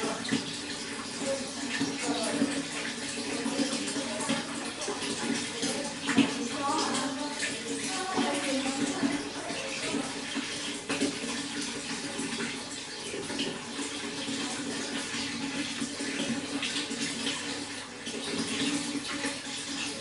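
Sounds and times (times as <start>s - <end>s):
running water splashing: 0.0s - 20.0s.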